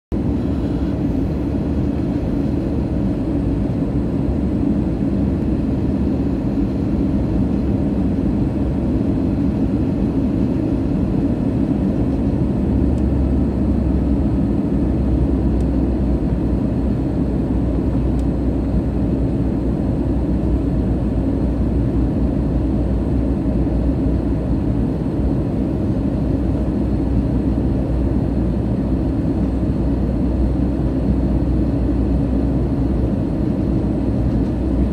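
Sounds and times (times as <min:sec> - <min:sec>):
airflow and engine rumble: 0:00.1 - 0:34.9.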